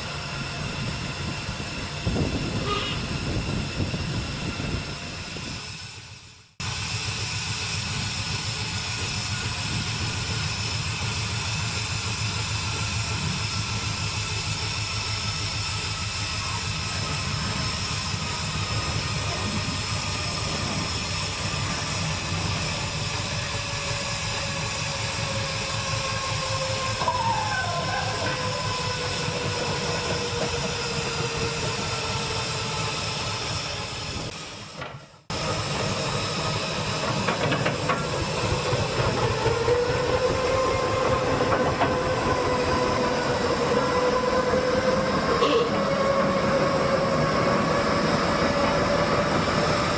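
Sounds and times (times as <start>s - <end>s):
train engine throbbing: 0.0s - 49.9s.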